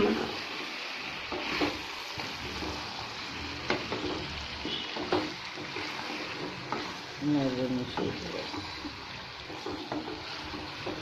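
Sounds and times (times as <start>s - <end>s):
food sizzling in a metal pot: 0.0s - 11.0s.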